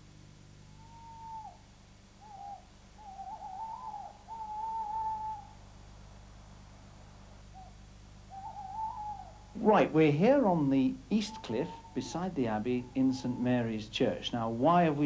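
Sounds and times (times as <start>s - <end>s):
faint low hum: 0.0s - 15.0s
owl hooting: 0.6s - 5.8s, 7.0s - 15.0s.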